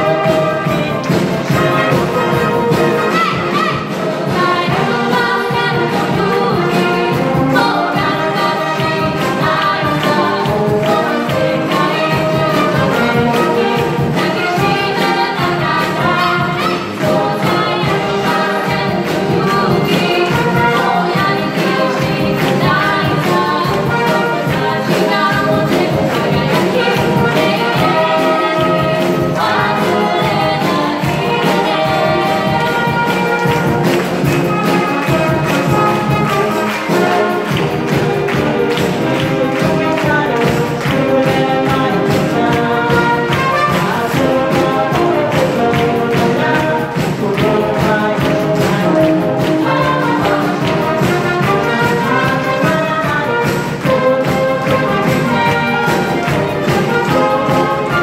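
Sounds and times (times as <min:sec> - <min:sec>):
wind band playing: 0:00.0 - 0:58.0.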